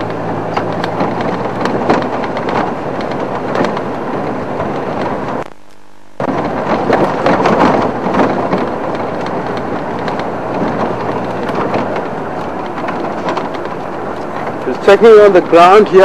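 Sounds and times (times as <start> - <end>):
rattles and knocks: 0.0 - 5.4, 6.2 - 16.0
vehicle driving over rough ground: 0.0 - 5.6, 6.2 - 16.0.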